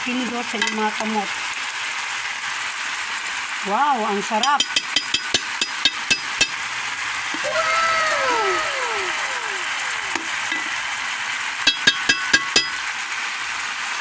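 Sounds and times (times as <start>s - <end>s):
chicken sizzling in hot oil: 0.0s - 7.6s, 10.0s - 14.0s.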